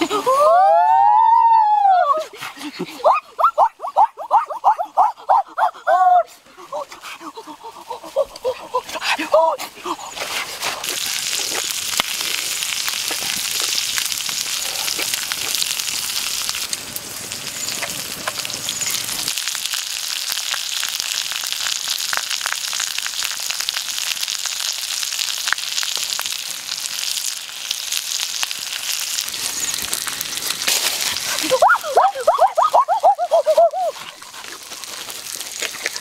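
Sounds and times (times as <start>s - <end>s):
offal sizzling on hot stone: 0.0s - 36.0s.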